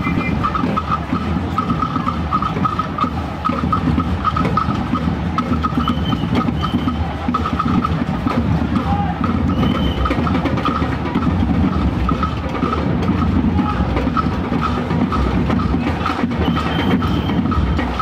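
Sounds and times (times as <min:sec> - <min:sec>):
bass drums: 0:00.0 - 0:18.0
snare drums marching beat: 0:00.0 - 0:18.0.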